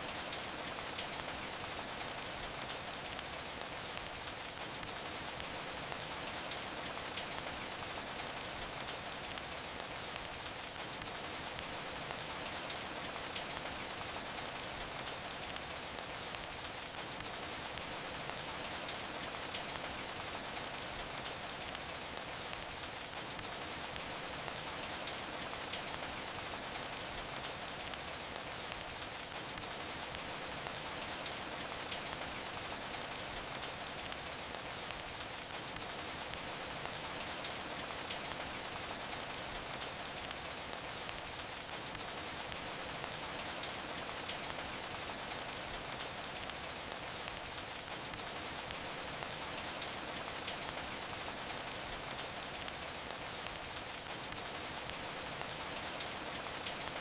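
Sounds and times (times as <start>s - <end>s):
rain hiss: 0.0s - 57.0s
fireplace crackling pops: 1.1s - 57.0s.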